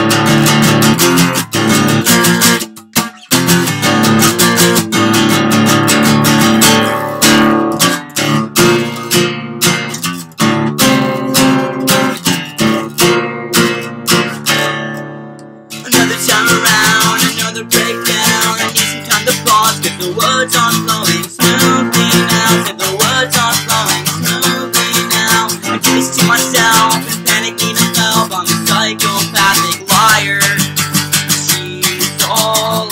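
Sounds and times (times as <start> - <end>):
acoustic guitar strumming: 0.0 - 32.9.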